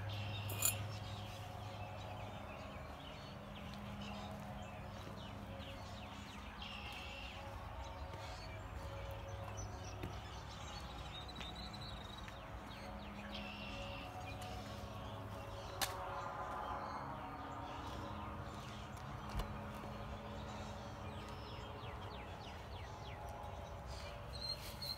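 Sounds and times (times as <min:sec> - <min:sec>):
wild birds chirping: 0:00.0 - 0:24.9.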